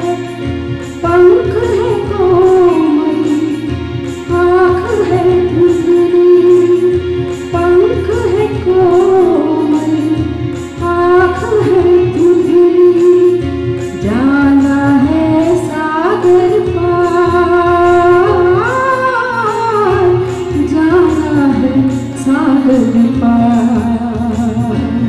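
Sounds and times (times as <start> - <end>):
instrumental accompaniment with beat: 0.0 - 25.0.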